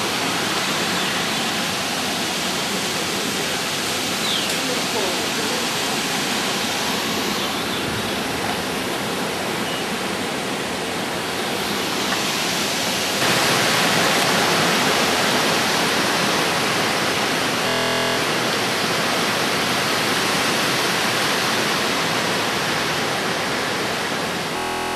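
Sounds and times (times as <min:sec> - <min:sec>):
waterfall and creek rushing: 0:00.0 - 0:24.9.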